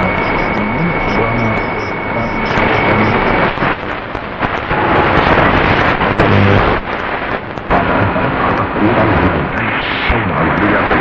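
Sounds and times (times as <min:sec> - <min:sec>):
shortwave radio static and hiss: 0:00.0 - 0:11.0.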